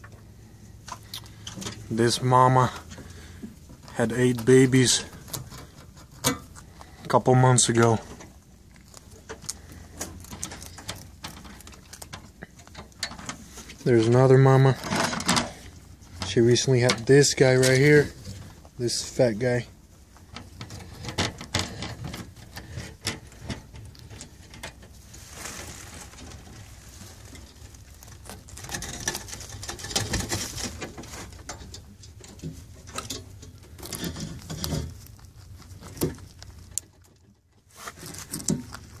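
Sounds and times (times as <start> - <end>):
rabbits crunching carrot: 0.0 - 39.0
rustling: 0.0 - 39.0.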